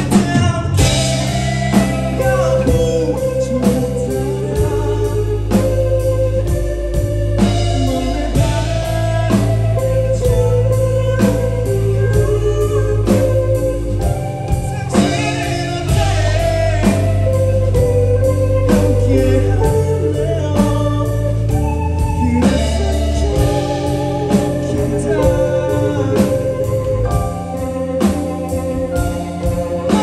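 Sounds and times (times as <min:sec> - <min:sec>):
man singing into a microphone: 0:00.0 - 0:06.2, 0:07.4 - 0:27.2
band accompaniment: 0:00.0 - 0:30.0
steady drum beat: 0:00.0 - 0:30.0
sustained bass: 0:00.0 - 0:30.0.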